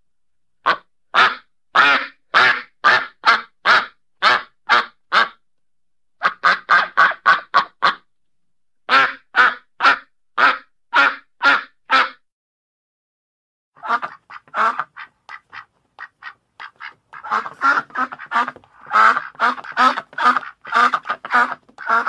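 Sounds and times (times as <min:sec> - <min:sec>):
duck quacking: 0:00.6 - 0:05.4, 0:06.2 - 0:08.1, 0:08.9 - 0:12.2, 0:13.8 - 0:22.0.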